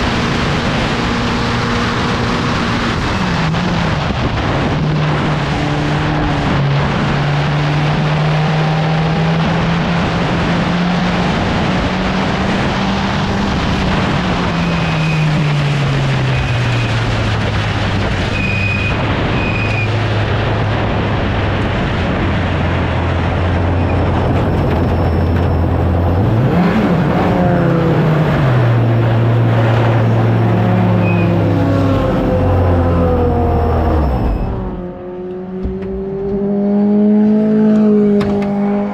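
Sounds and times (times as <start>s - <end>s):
racing car engine: 0.0s - 38.9s
wind noise: 0.0s - 38.9s.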